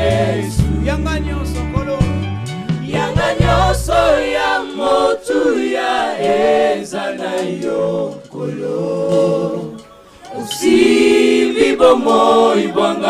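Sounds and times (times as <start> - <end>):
choir singing in harmony: 0.0 - 1.3, 2.7 - 13.0.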